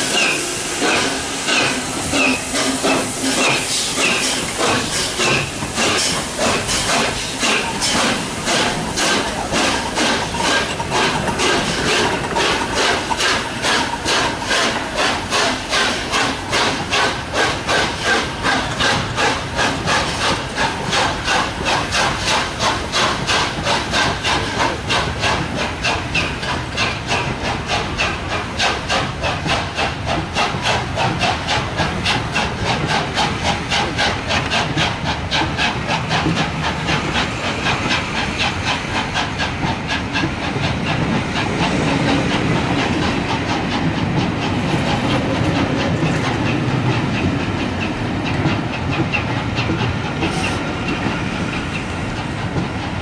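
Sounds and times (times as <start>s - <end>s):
hiss of leaking steam: 0.0s - 53.0s
steam locomotive exhaust beats: 0.0s - 53.0s.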